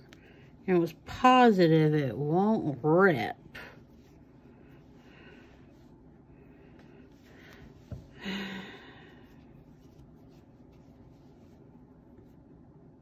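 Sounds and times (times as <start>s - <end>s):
rustling of yarn fabric: 0.0s - 8.5s, 9.1s - 12.6s.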